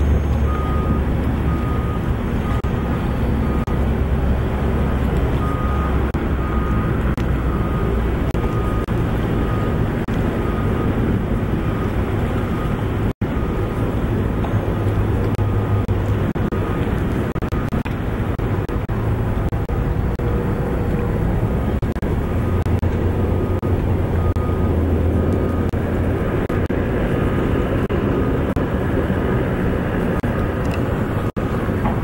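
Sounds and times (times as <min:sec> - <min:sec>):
backup alarm beeping: 0:00.0 - 0:26.9
deep hum: 0:00.0 - 0:32.0
traffic and engine rumble: 0:00.0 - 0:32.0.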